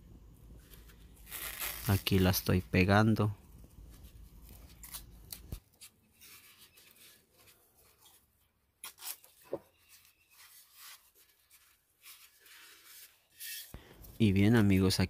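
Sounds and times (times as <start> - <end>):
tape rubbing and crinkling: 0.5 - 2.6, 3.4 - 14.2.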